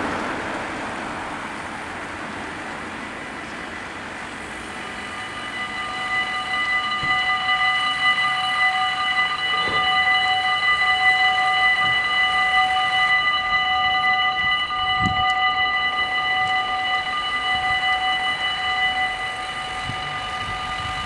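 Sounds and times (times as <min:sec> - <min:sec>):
level-crossing bells ringing: 0:02.2 - 0:21.0.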